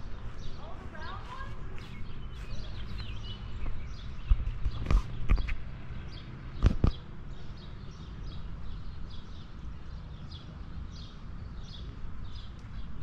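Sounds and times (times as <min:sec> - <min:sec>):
small bird chirping: 0:00.3 - 0:13.0.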